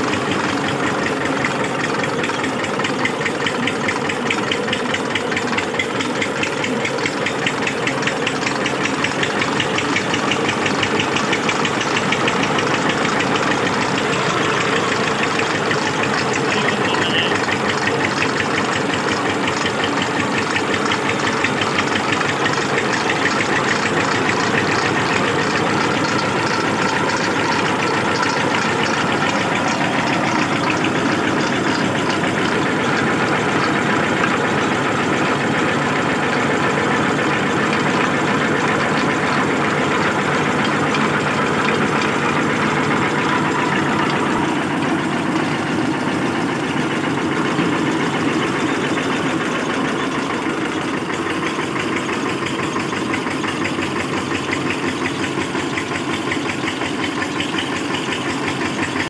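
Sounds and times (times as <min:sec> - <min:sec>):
oil expeller engine running: 0:00.0 - 0:59.0.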